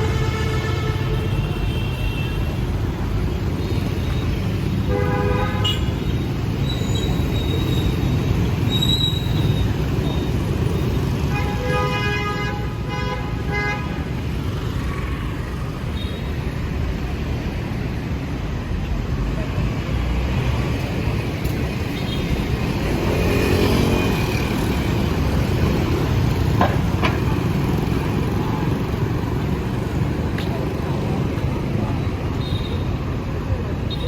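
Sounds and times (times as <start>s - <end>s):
city street traffic: 0.0s - 34.0s.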